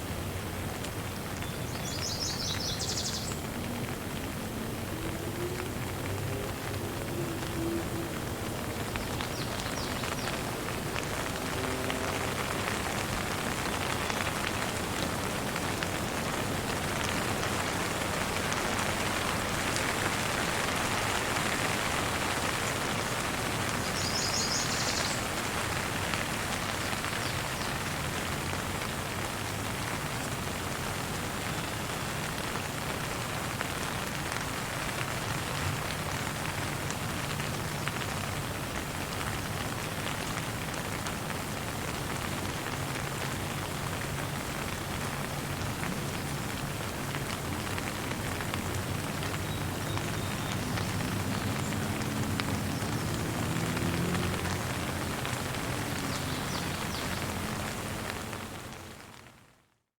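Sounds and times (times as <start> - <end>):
steady rain pattering: 0.0 - 59.9.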